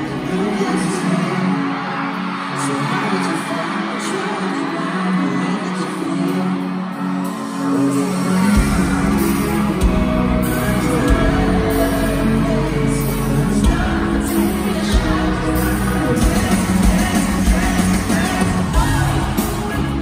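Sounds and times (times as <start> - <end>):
lead vocals: 0.0 - 20.0
live pop band: 0.0 - 20.0.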